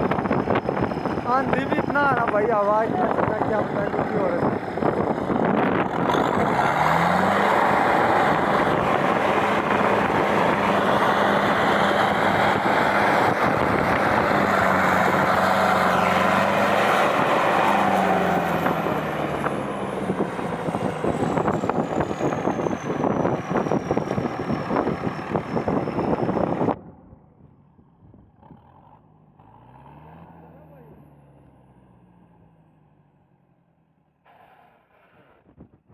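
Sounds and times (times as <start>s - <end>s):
tractor engine droning: 0.0s - 31.9s.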